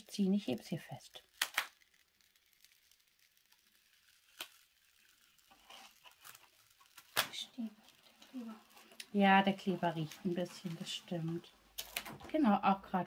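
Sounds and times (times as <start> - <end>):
plastic film peeling: 0.0 - 12.4.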